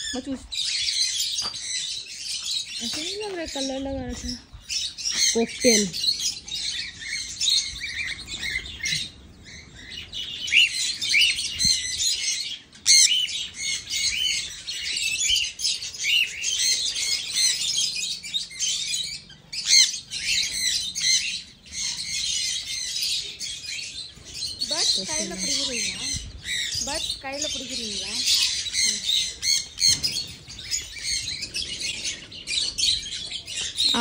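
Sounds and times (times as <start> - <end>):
parrots chirping and chattering: 0.0 - 34.0.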